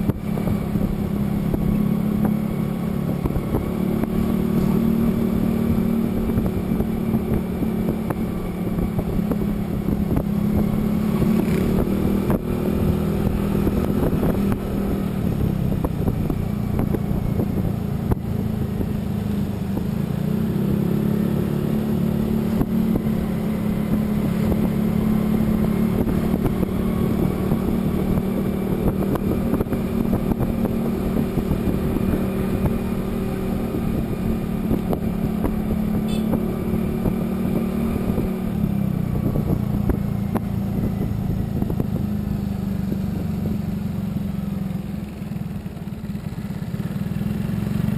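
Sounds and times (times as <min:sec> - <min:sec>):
road and wind rumble: 0:00.0 - 0:47.9
vehicle engine running: 0:00.0 - 0:47.9.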